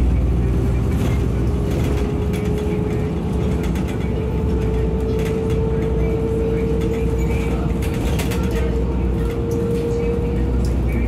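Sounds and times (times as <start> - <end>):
bus engine and road rumble: 0.0 - 11.0
light cabin rattles: 0.0 - 11.0.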